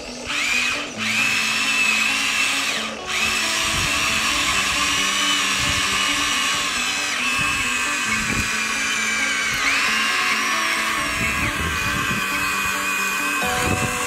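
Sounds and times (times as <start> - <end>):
toy excavator motors whining: 0.0 - 14.0.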